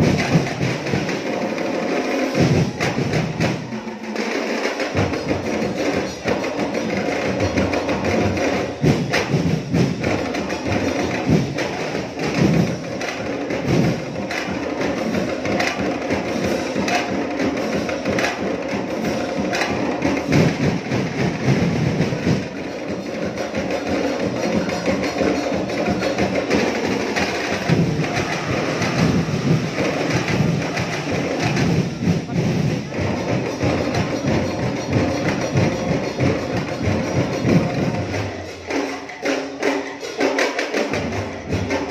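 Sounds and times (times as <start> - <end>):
drum and percussion ensemble: 0.0 - 41.9.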